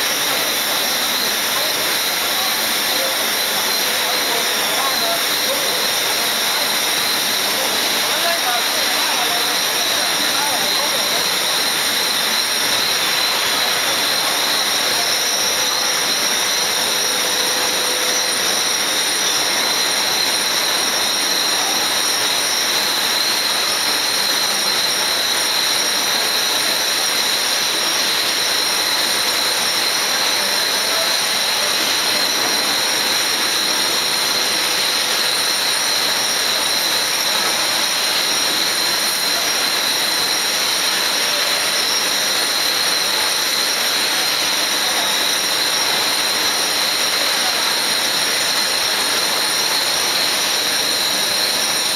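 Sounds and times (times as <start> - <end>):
casting machine rushing: 0.0 - 51.9
high whine: 0.0 - 51.9.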